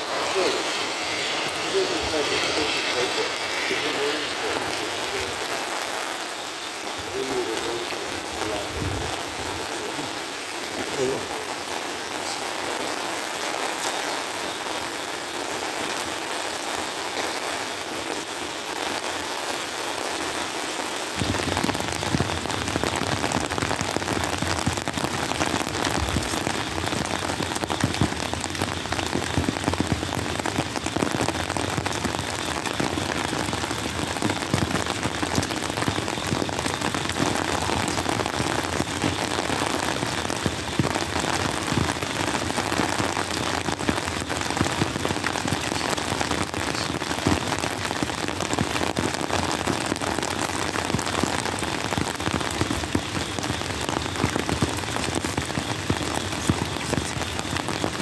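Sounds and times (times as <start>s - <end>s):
rain pouring on wet road: 0.0s - 58.0s
raindrops ticking: 0.0s - 58.0s.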